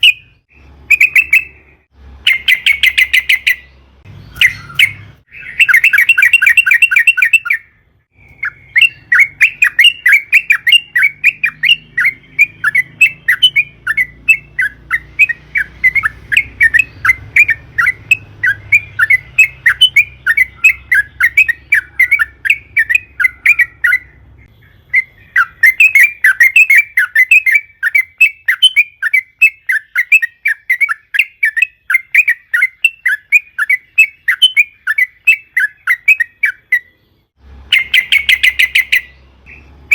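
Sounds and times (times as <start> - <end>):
bird singing rapid bubbling chatter: 0.0 - 39.9.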